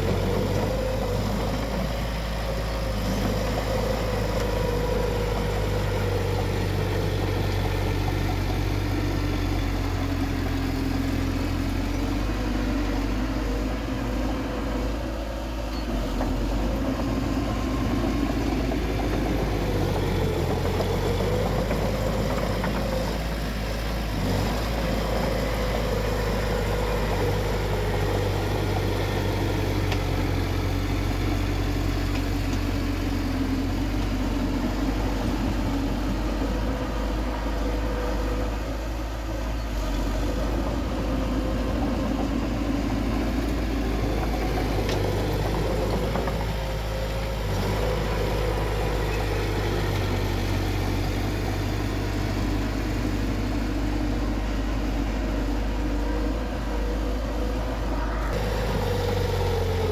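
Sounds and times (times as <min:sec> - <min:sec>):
heavy machine diesel engine running: 0:00.0 - 0:59.9.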